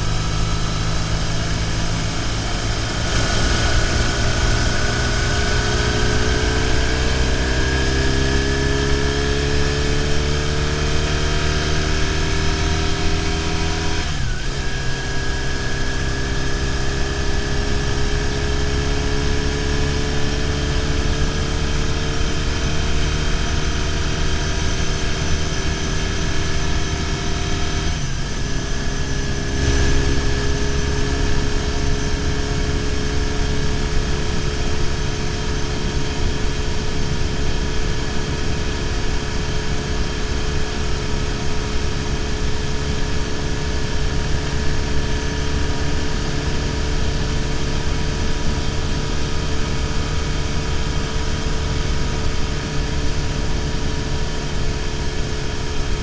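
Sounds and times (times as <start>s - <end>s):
motorcycle engine cruising: 0.0s - 56.0s
road and wind noise: 0.0s - 56.0s.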